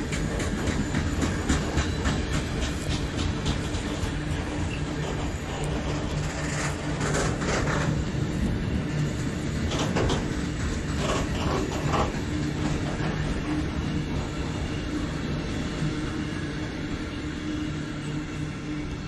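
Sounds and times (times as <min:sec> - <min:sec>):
train clattering knocks: 0:00.0 - 0:16.0
train running past humming: 0:00.0 - 0:19.0.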